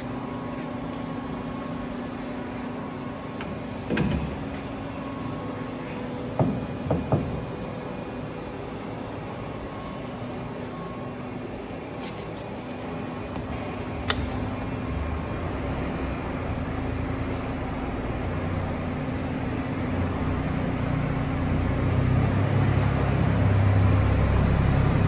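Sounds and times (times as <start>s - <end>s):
steady machine hum: 0.0s - 25.0s.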